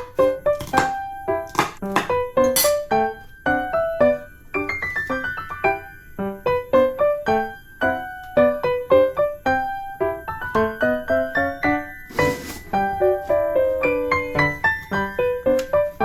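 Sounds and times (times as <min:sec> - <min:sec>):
light keyboard melody: 0:00.0 - 0:16.0.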